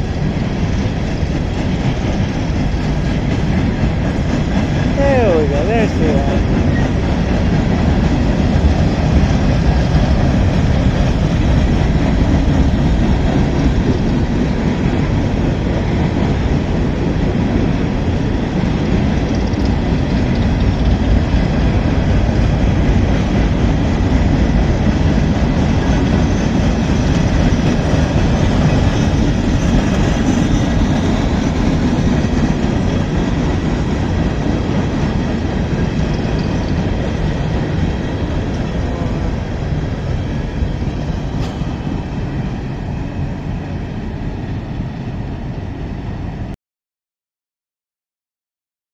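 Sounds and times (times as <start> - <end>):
train wheels rumbling on track: 0.0 - 46.6.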